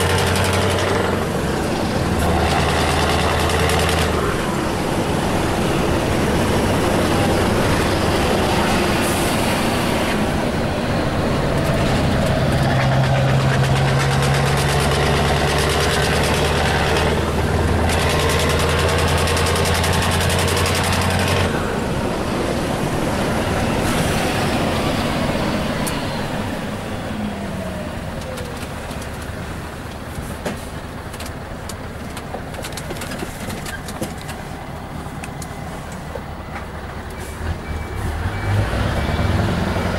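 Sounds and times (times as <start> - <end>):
truck engine pulling hard: 0.0 - 39.9.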